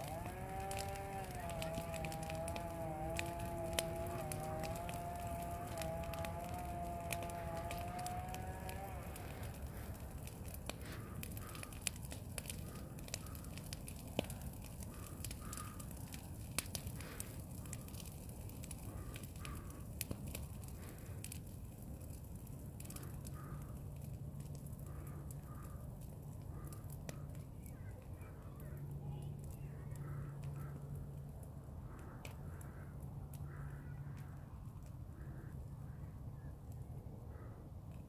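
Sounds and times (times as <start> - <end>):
faint animal calls: 0.0 - 18.0, 22.8 - 37.8
brush fire crackling and popping: 0.0 - 38.0.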